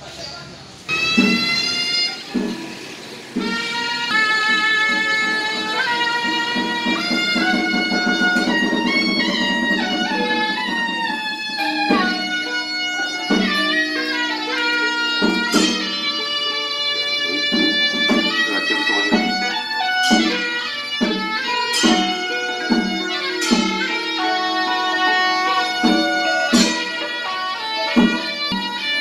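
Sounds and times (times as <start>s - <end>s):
percussion beat: 0.9s - 29.0s
string and wind melody: 0.9s - 29.0s.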